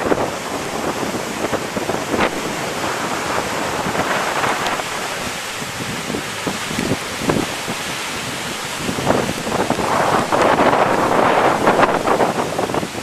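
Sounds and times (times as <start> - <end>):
falling rain: 0.0 - 13.0
heavy surf: 0.0 - 13.0
wind buffeting microphone: 0.0 - 13.0.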